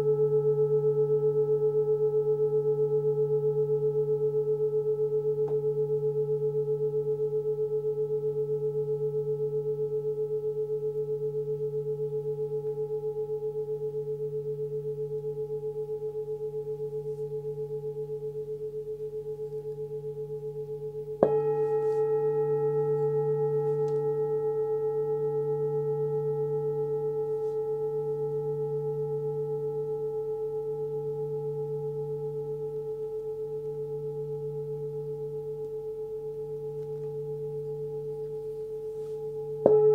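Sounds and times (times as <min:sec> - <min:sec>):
singing bowl ringing: 0:00.0 - 0:39.9
singing bowl struck: 0:00.0 - 0:39.9.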